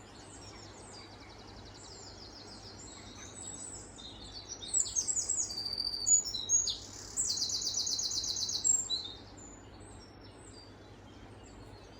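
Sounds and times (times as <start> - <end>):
wren singing rapid trill: 0.0 - 9.7.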